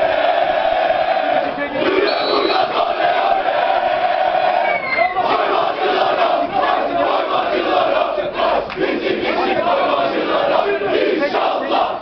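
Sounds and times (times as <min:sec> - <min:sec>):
crowd of men chanting: 0:00.0 - 0:12.0.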